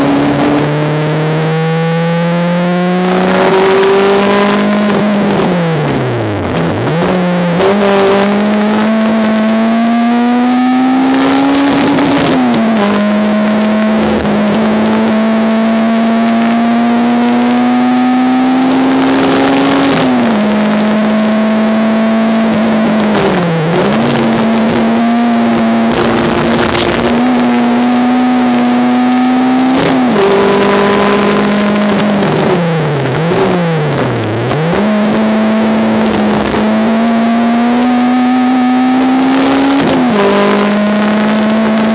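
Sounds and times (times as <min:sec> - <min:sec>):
race car engine at speed: 0:00.0 - 0:41.9.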